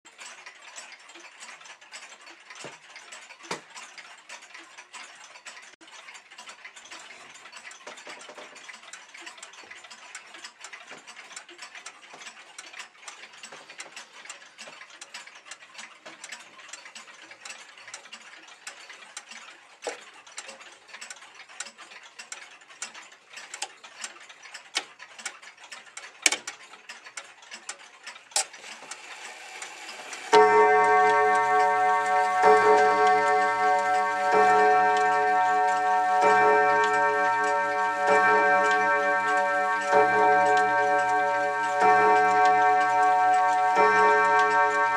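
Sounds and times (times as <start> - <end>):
pendulum clocks ticking: 0.1 - 44.9.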